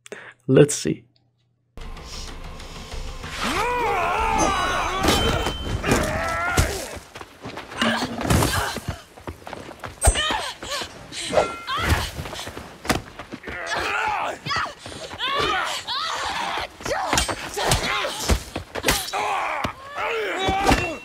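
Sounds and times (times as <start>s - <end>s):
people shouting and grunting: 3.3s - 9.2s, 10.0s - 21.0s.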